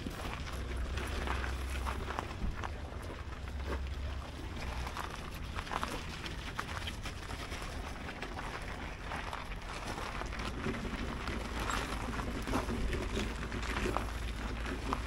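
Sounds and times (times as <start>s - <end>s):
footsteps on gravel: 0.0s - 15.0s
wind rumble on microphone: 0.0s - 15.0s.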